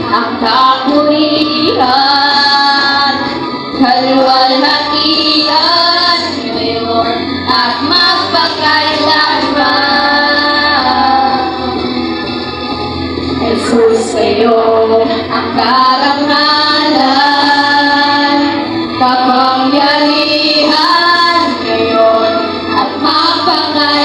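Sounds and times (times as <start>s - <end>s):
girls singing worship song: 0.0s - 11.7s, 13.4s - 24.0s.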